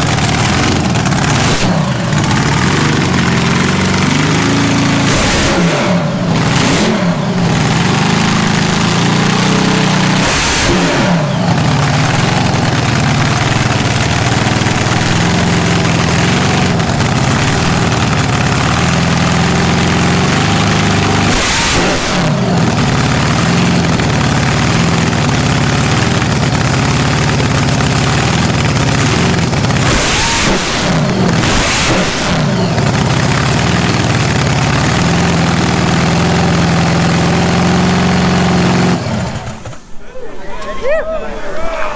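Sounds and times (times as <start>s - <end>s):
drag racing car engine revving: 0.0s - 39.9s.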